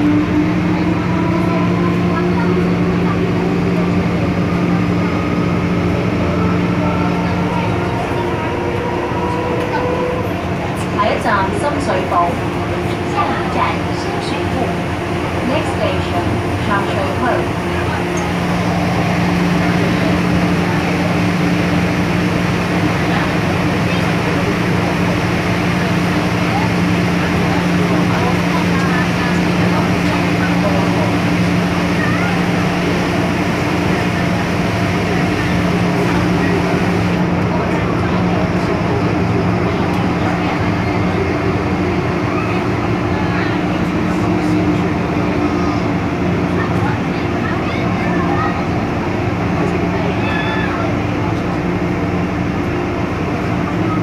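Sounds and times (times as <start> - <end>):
constant hum: 0.0 - 54.0
train running rumble: 0.0 - 54.0.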